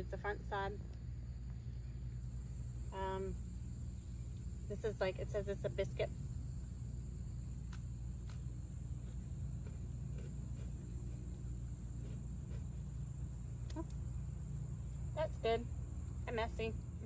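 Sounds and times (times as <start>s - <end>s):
insects singing: 0.0s - 17.0s.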